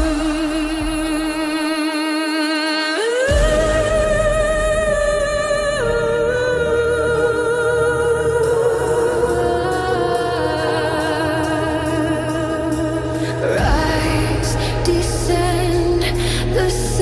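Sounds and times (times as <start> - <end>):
voice holding wordless notes: 3.0 - 17.0
steady low bass: 3.3 - 17.0.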